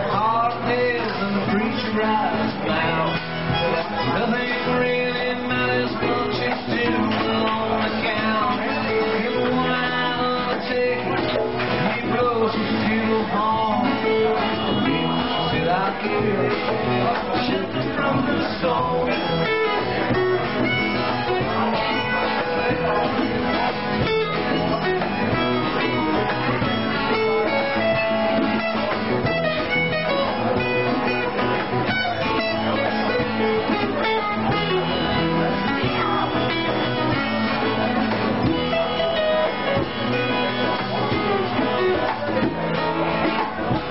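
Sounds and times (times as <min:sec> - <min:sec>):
drum kit: 0:00.0 - 0:43.9
strummed acoustic guitar: 0:00.0 - 0:43.9.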